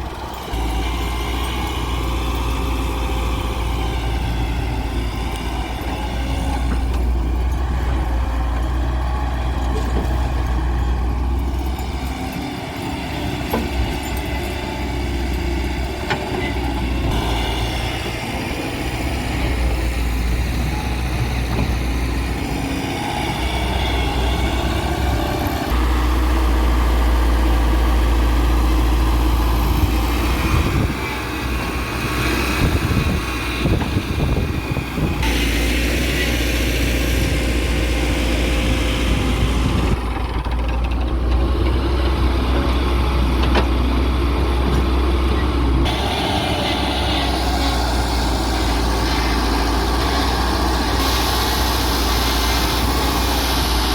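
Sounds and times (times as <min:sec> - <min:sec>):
diesel engine of digger: 0:00.0 - 0:53.9.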